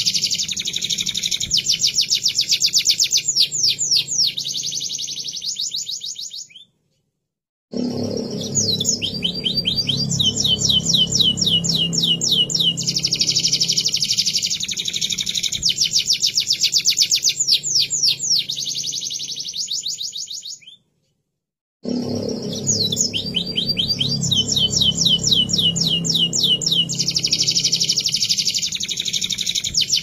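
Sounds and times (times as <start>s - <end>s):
canary singing trills: 0.0s - 6.7s, 8.0s - 20.8s, 22.1s - 30.0s.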